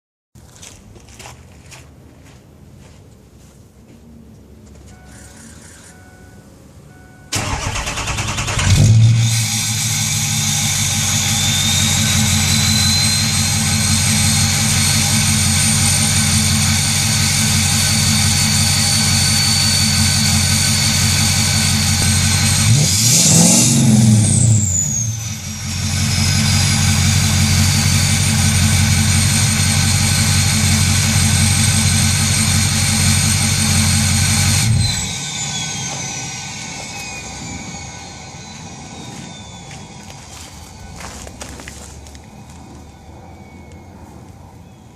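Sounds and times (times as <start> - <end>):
diesel engine cranking and idling: 4.9 - 44.6
high turbo whistle: 7.3 - 44.7.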